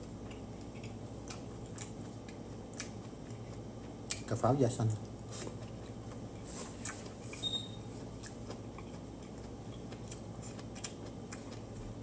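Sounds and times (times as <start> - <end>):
person chewing food: 0.0 - 4.3, 5.0 - 12.0.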